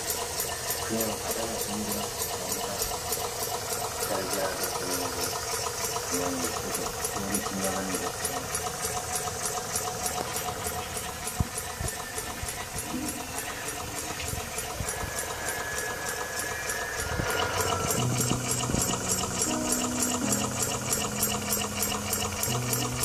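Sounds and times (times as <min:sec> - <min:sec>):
steam engine chuffing: 0:00.0 - 0:23.0.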